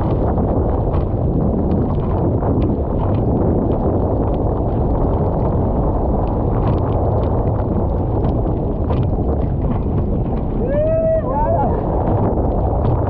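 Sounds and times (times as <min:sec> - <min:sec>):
water splashing: 0:00.0 - 0:13.0
wind buffeting microphone: 0:00.0 - 0:13.0.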